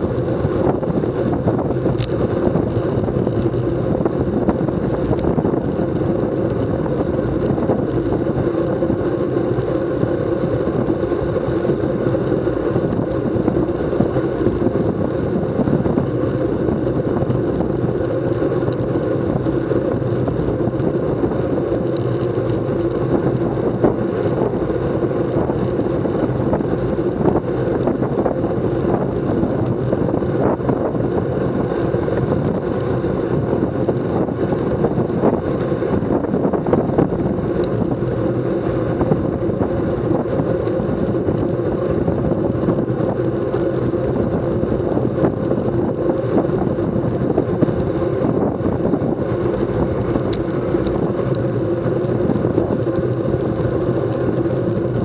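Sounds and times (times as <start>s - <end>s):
constant low rumble: 0.0s - 55.0s
wind rushing over microphone: 0.0s - 55.0s.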